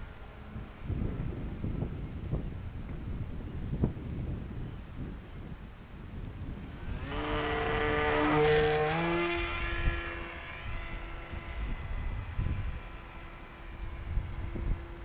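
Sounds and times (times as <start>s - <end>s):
model aircraft motor and propeller whine: 0.0s - 15.0s
wind rumble on microphone: 0.0s - 15.0s.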